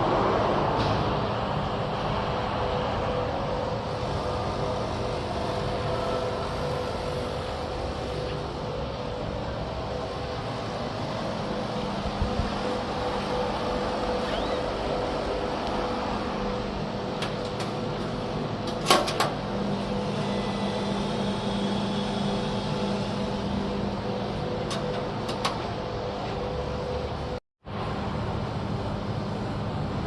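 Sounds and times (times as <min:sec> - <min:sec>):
steady machine hum: 0:00.0 - 0:30.0.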